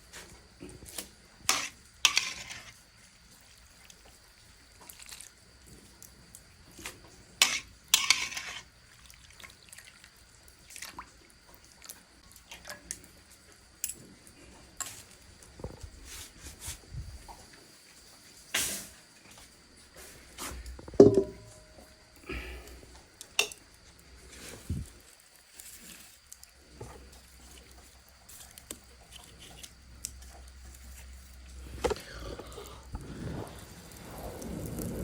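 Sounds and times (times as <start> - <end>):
soft wet food sounds: 0.0 - 18.5, 19.2 - 35.0.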